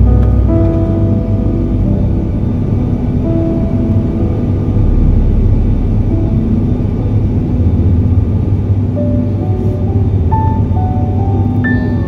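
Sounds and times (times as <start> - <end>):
airliner engines and airflow rumble: 0.0 - 12.0.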